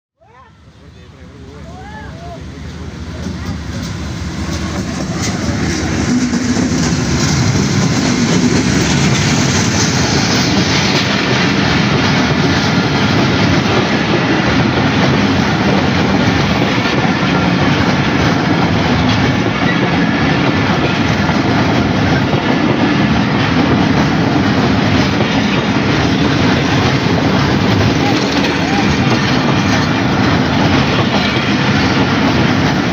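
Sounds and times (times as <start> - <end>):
train rumble: 0.5 - 32.9
train wheels clattering over joints: 2.6 - 32.9.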